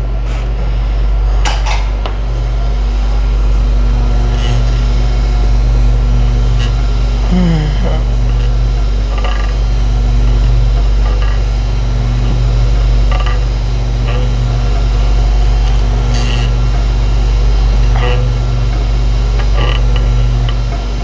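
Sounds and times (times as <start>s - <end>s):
low electric machine hum: 0.0s - 21.0s.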